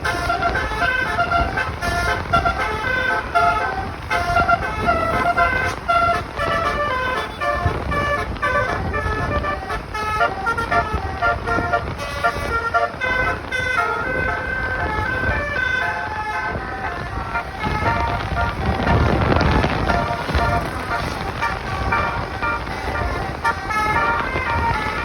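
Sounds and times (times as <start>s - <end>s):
bus horn playing a tune: 0.0s - 25.0s
low engine rumble: 0.0s - 25.0s.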